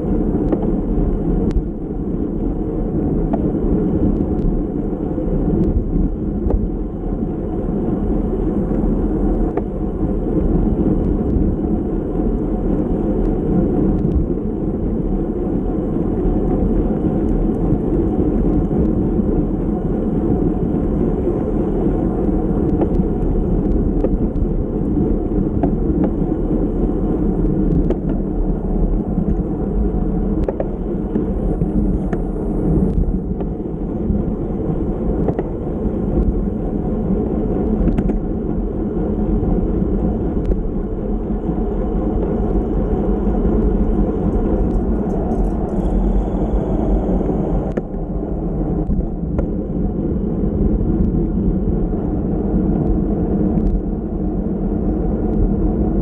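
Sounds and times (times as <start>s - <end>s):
tyre rumble on road: 0.0s - 53.9s
wind rush on microphone: 0.0s - 56.0s.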